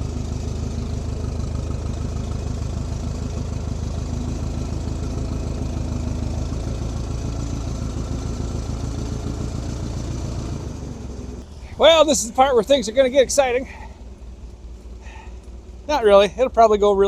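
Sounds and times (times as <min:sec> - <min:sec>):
forklift engine idling: 0:00.0 - 0:17.0.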